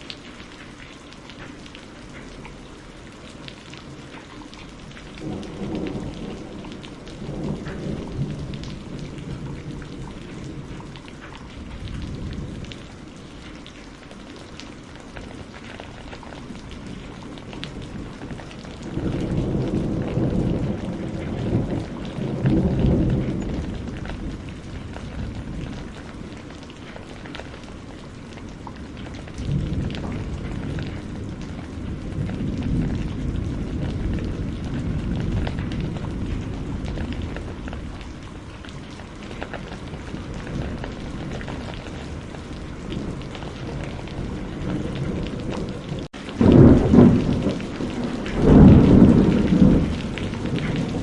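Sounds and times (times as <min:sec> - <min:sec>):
steady rain falling: 0:00.0 - 0:51.0
thunder rumbling: 0:01.4 - 0:13.7, 0:14.4 - 0:51.0.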